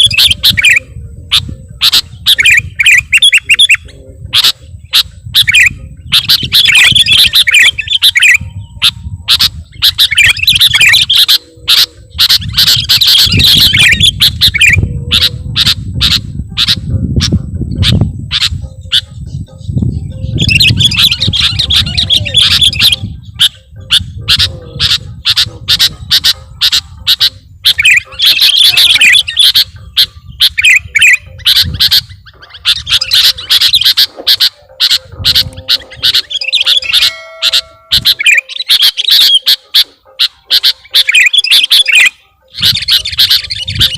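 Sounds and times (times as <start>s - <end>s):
bird chattering chirps: 0.0s - 43.9s.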